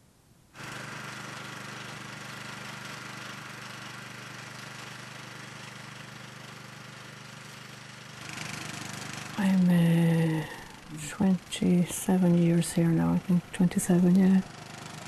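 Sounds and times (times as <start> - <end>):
ride-on lawn mower engine: 0.6 - 15.0.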